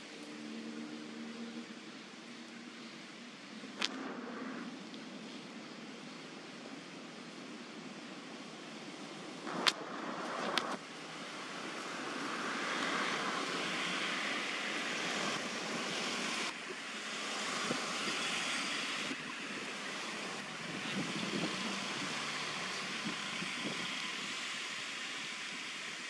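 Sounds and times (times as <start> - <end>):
wind hiss on microphone: 0.0 - 26.0.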